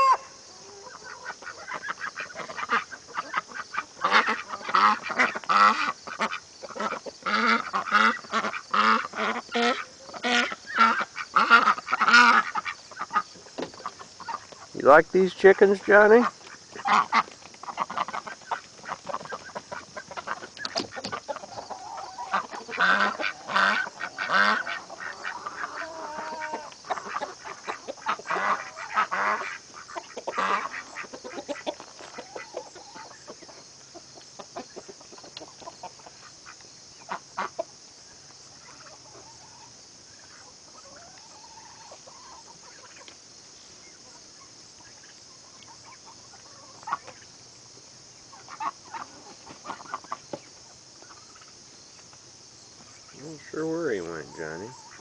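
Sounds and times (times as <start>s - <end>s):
ducks quacking: 0.0s - 37.7s, 43.9s - 47.3s, 48.2s - 51.6s, 52.8s - 55.0s
chickens clucking: 0.0s - 55.0s.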